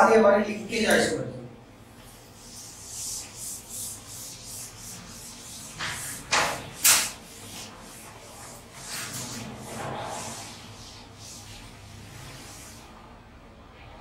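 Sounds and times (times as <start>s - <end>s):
cloth wiping a chalkboard: 1.9s - 13.2s.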